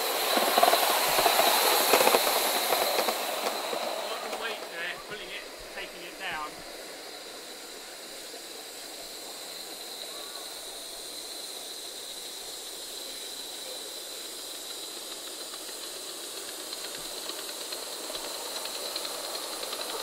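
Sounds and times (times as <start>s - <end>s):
model steam locomotive hissing: 0.0s - 20.0s.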